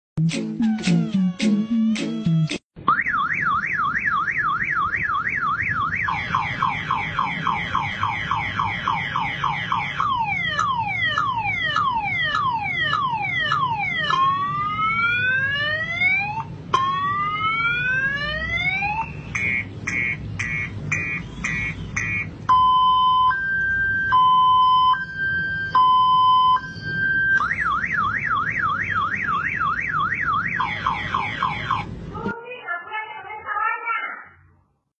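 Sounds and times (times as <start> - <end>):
motorcycle alarm siren: 1.6 - 31.9.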